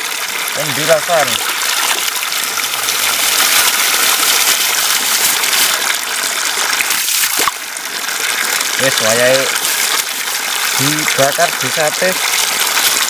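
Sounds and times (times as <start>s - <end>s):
water gushing into pool: 0.0s - 13.0s.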